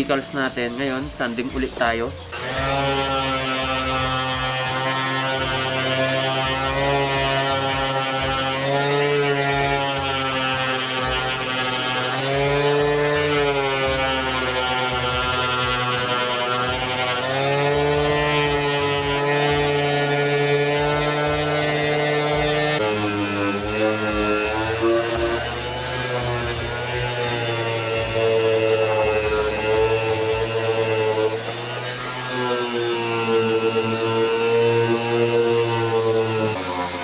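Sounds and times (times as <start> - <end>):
orbital sander running: 0.0 - 37.0.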